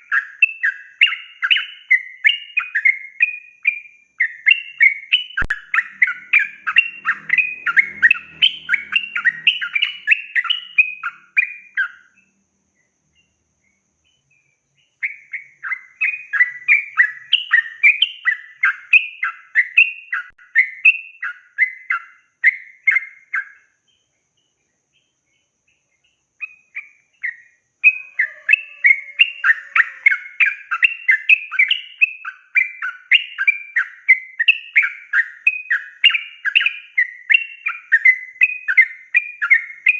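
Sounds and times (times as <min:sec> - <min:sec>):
bird singing rapid notes: 0:00.0 - 0:39.9.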